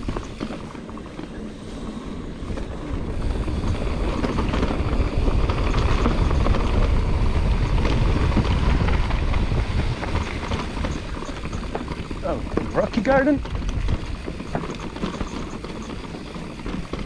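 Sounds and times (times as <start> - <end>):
bike rattling: 0.0 - 17.0
bike tyre rumble: 0.0 - 17.0
wind buffeting microphone: 0.0 - 17.0.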